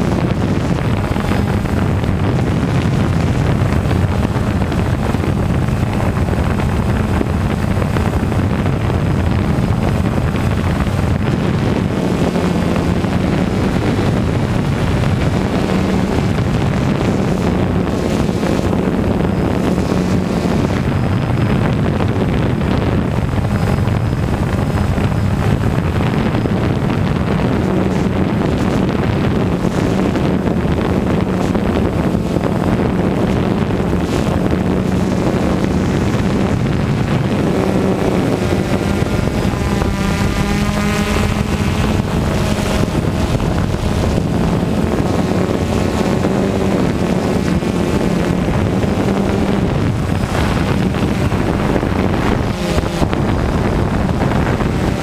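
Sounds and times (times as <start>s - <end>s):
drone propellers buzzing: 0.0s - 55.0s
wind on microphone: 0.0s - 55.0s.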